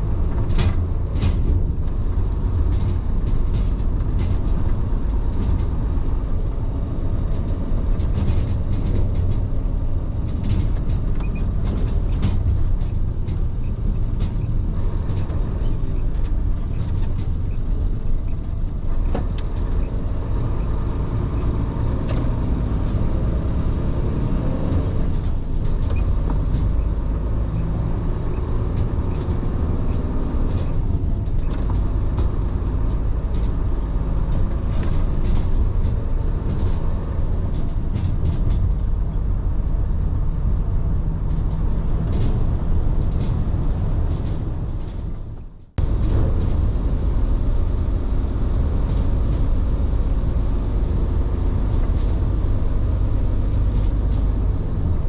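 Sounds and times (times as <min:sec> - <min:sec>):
truck engine and road rumble: 0:00.0 - 0:55.0
light clicks and rattles: 0:00.1 - 0:55.0.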